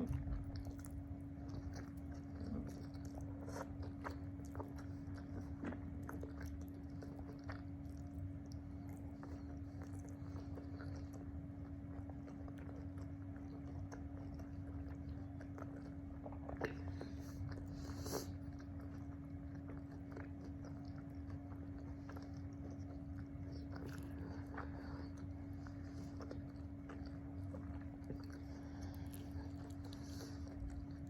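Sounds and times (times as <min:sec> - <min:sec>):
chewing and biting food: 0:00.0 - 0:31.0
steady background hum: 0:00.0 - 0:31.0.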